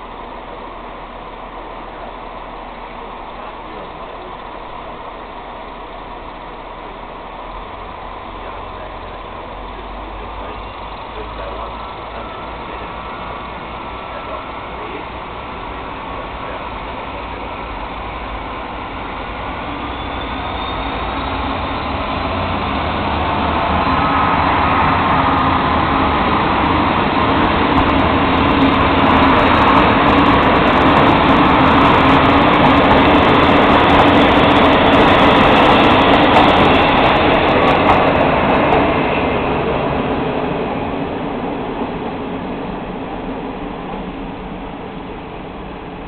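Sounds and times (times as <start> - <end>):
train engine running: 0.0 - 46.0
train wheels rolling on rails: 0.0 - 46.0.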